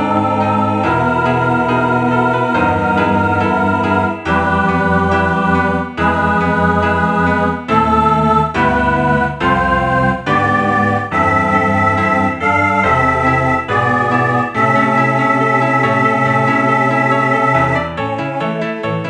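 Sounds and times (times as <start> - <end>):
synthesized organ-like choral chords: 0.0 - 19.0.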